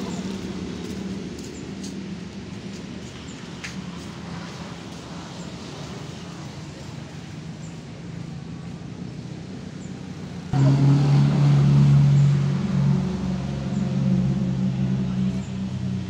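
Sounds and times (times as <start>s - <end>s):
background traffic hum: 0.0s - 16.0s
vehicle engine drone: 0.0s - 16.0s.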